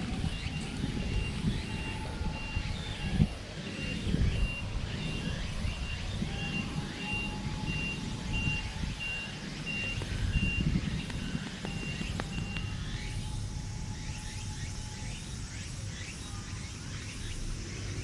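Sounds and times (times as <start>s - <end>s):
reversing alarm beeping: 0.0s - 17.6s.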